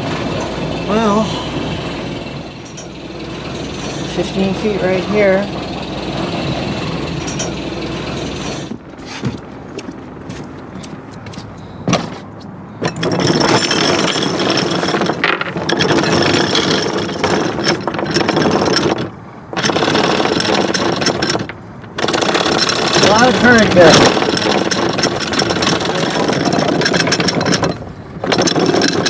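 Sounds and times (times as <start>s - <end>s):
anchor chain rattling: 1.9s - 10.0s, 10.7s - 29.0s
metallic clanks: 2.2s - 9.5s, 11.1s - 29.0s.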